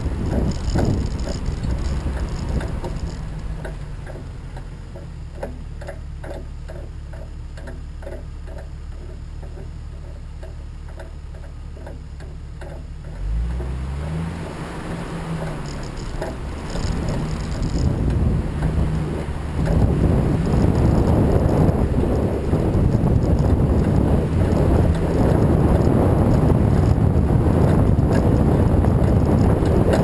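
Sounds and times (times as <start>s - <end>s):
fast regular ticking: 0.0s - 13.8s, 14.4s - 30.0s
vehicle engine humming: 0.0s - 30.0s.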